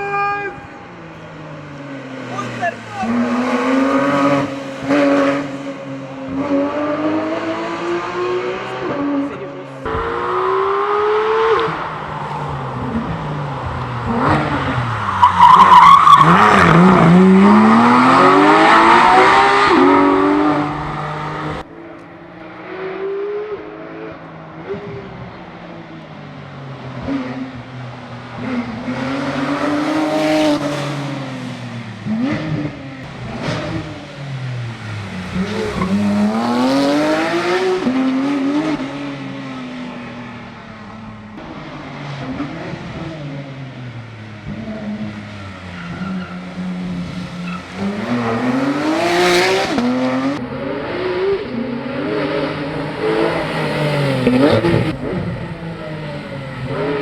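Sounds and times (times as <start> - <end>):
car engine revving: 0.6 - 57.0.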